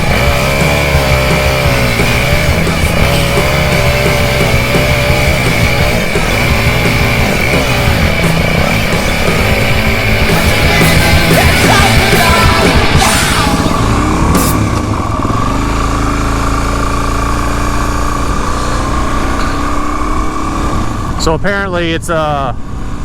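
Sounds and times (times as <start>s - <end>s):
loud rock music: 0.0s - 22.7s
motorcycle engine running: 0.0s - 23.0s.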